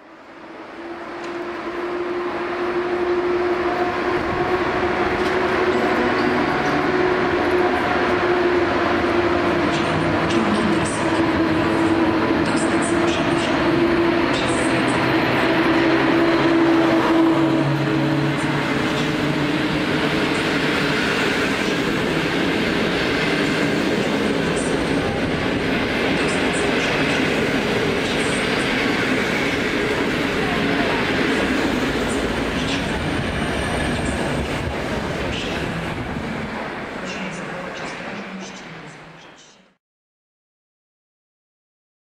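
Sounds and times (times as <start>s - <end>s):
locomotive hum: 0.0s - 39.5s
train wheels rumbling on rail: 0.3s - 39.5s.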